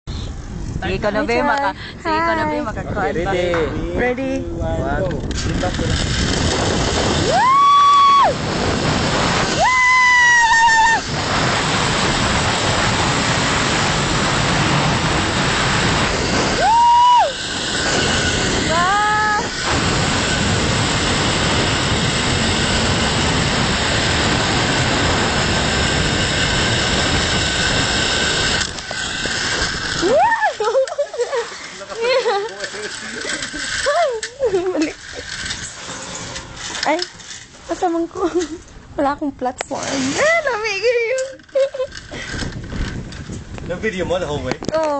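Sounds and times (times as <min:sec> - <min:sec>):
wind rushing over microphone: 0:00.1 - 0:44.9.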